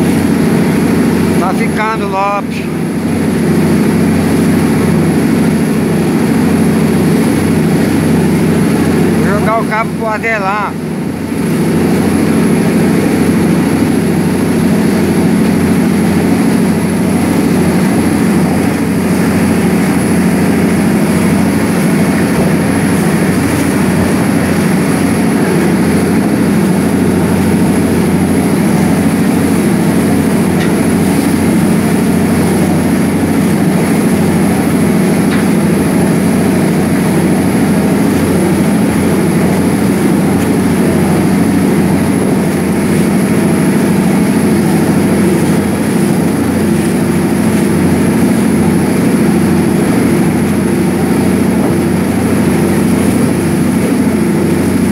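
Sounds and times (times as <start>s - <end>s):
boat diesel engine drone: 0.0s - 54.9s
churning wake water: 0.0s - 54.9s.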